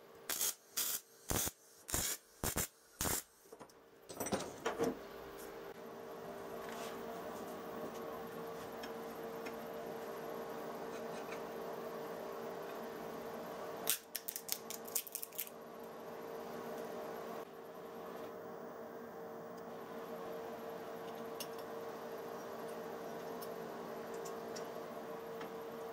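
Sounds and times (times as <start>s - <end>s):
steady hum: 0.0s - 25.9s.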